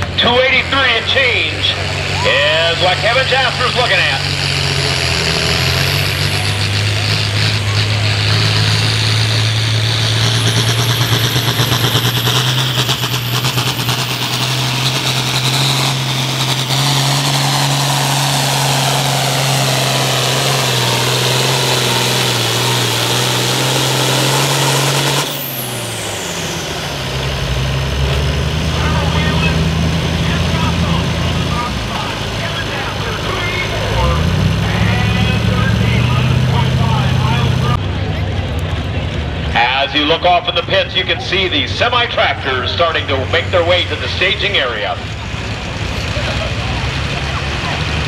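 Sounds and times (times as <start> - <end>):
tractor diesel engine full throttle: 0.0 - 48.0.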